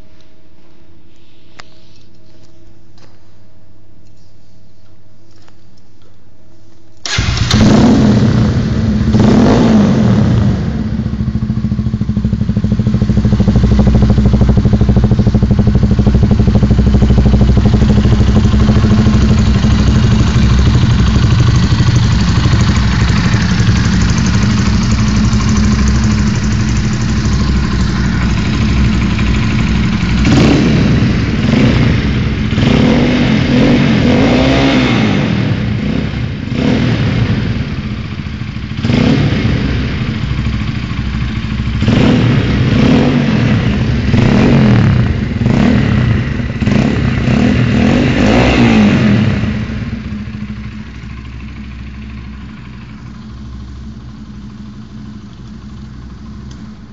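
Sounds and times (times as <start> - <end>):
motorcycle engine revving: 7.0 - 54.1.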